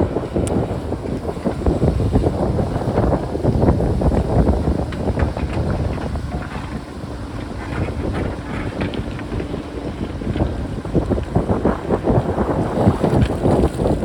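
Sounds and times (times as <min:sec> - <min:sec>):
backhoe diesel engine working: 0:00.0 - 0:12.7
wind buffeting microphone: 0:00.0 - 0:14.0.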